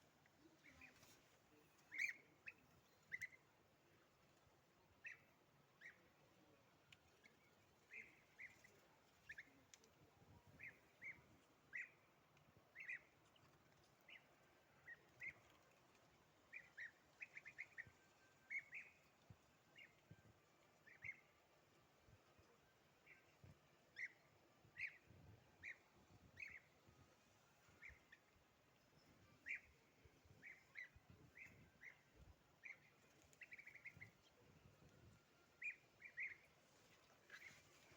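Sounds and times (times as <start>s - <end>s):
faint outdoor background: 0.0s - 37.9s.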